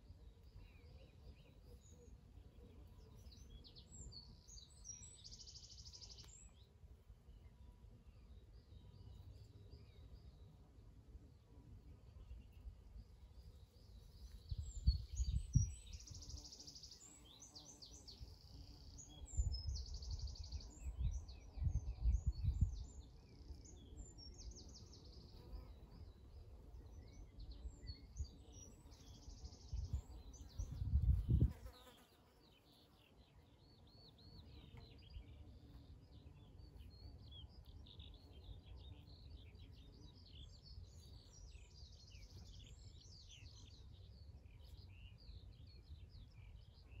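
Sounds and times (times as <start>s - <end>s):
songbirds chirping and trilling: 0.0s - 47.0s.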